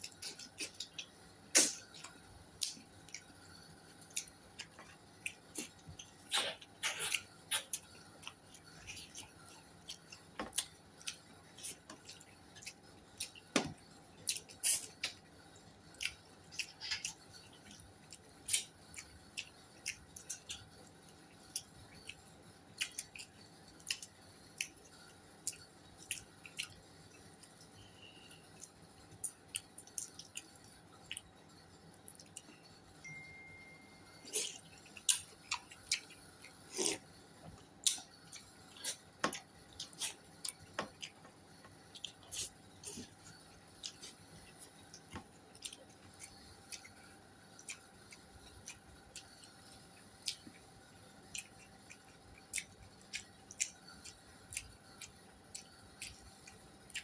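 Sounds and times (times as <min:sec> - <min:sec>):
chewing: 0:00.0 - 0:32.6, 0:34.2 - 0:57.0.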